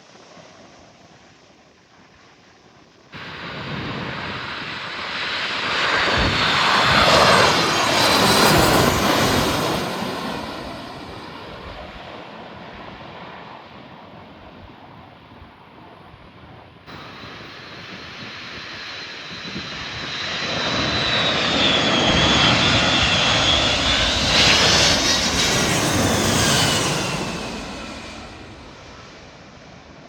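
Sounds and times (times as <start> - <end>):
jet engines passing: 3.2 - 14.3, 16.9 - 30.0.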